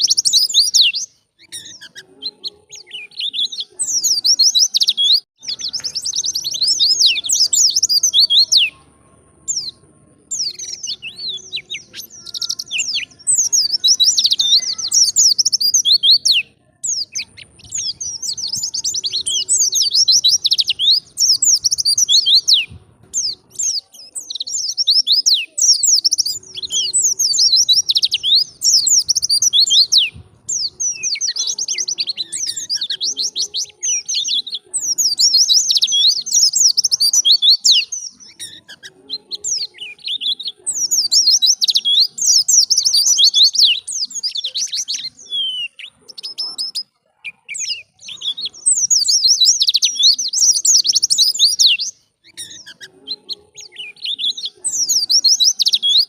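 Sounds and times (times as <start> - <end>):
bird chirping trills: 0.0 - 56.0.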